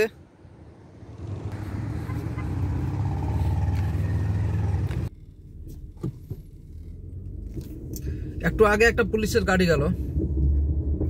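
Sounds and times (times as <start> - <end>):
motor vehicle rumble: 0.1 - 11.0.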